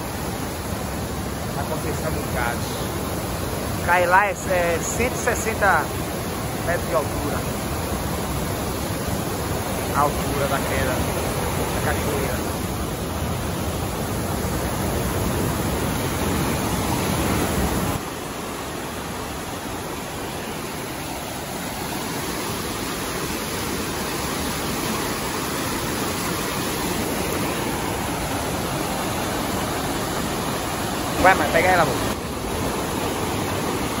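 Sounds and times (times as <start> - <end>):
waterfall and river rapids rushing: 0.0 - 34.0.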